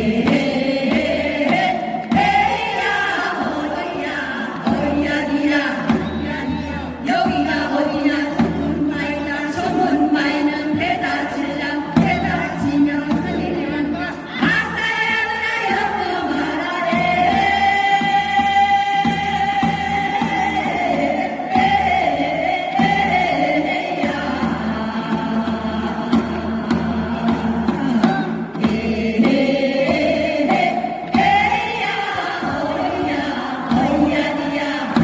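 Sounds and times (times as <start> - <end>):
group of voices singing: 0.0 - 35.0.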